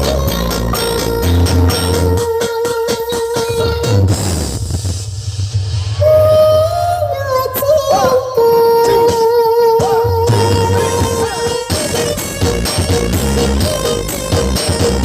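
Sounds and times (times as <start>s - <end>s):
electronic dance music: 0.0s - 15.0s.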